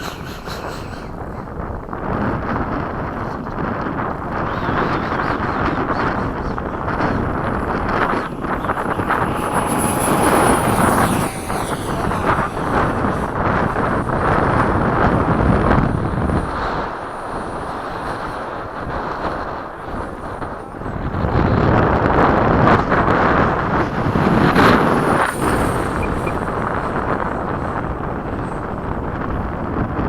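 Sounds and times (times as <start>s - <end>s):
electric ducted fan whining: 0.0s - 30.0s
wind buffeting microphone: 0.0s - 30.0s.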